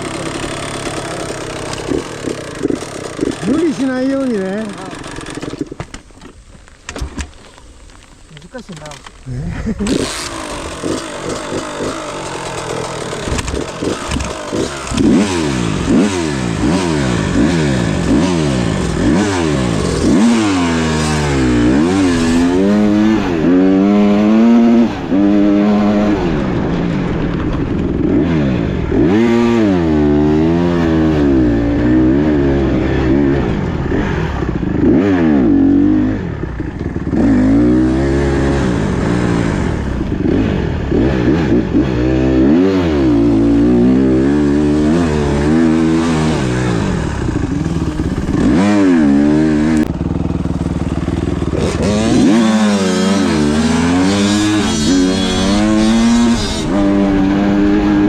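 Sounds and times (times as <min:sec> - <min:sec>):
dirt bike engine revving: 0:00.0 - 0:05.8, 0:08.5 - 0:58.0.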